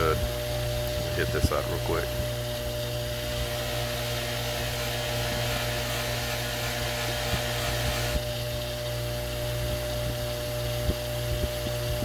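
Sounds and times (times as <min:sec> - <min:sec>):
polishing wheel motor hum: 0:00.0 - 0:12.0.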